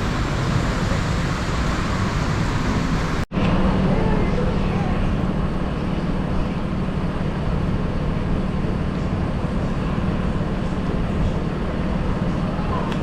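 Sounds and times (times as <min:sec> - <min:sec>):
engine hum: 0:00.0 - 0:13.0
traffic rumble: 0:00.0 - 0:13.0.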